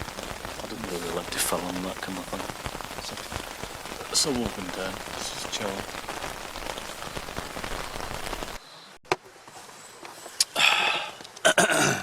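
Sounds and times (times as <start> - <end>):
rain on a tent: 0.0 - 12.0.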